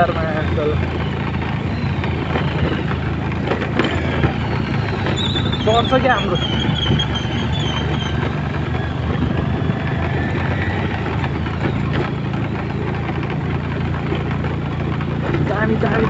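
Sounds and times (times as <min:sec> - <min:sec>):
motorbike engine under load: 0:00.0 - 0:16.0.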